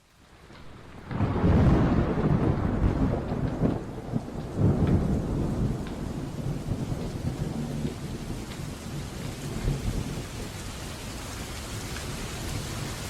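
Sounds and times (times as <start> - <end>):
rain hissing: 0.0 - 13.0
raindrop ticks: 0.4 - 1.4, 2.1 - 12.8.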